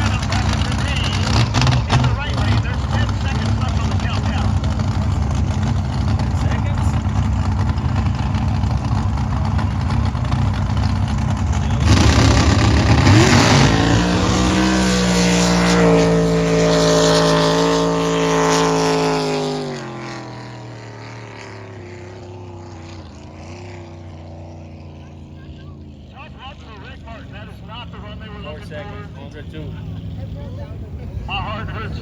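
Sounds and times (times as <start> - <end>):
drag boat engines roaring: 0.0 - 32.0.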